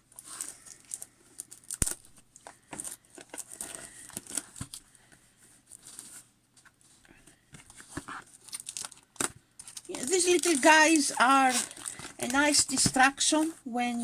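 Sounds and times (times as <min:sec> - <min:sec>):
packaging crinkling and rustling: 0:00.0 - 0:06.2, 0:07.3 - 0:13.7.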